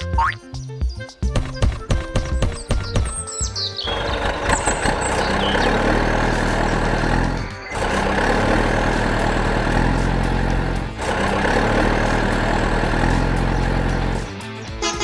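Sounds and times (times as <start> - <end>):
heavy vehicle engine running: 1.4 - 15.0.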